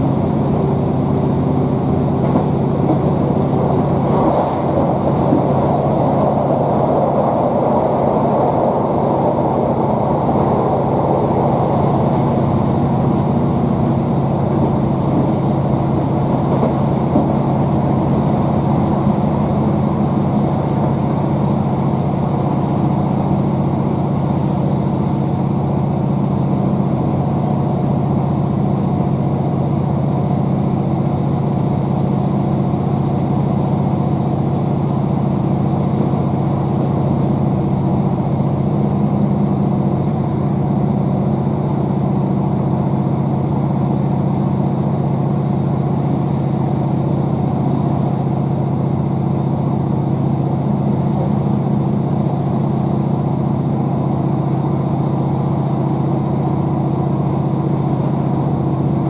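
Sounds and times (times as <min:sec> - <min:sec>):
train diesel engine droning: 0:00.0 - 0:59.0
wheel and rail noise: 0:00.0 - 0:59.0.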